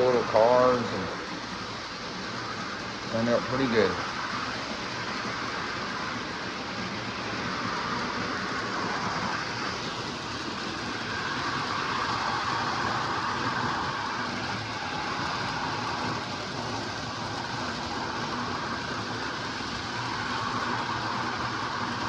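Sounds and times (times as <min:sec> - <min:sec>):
toy trains whirring on track: 0:00.0 - 0:22.0.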